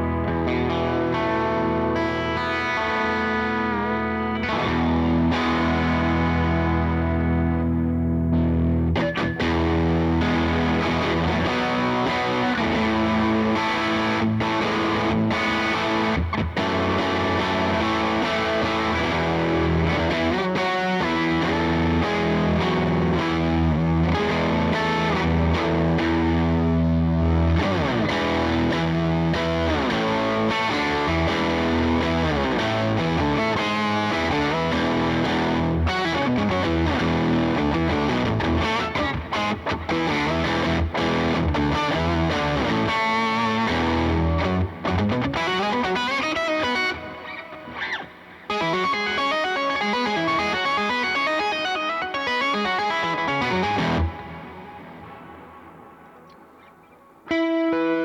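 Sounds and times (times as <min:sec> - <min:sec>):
distorted electric guitar: 0:00.0 - 0:58.0.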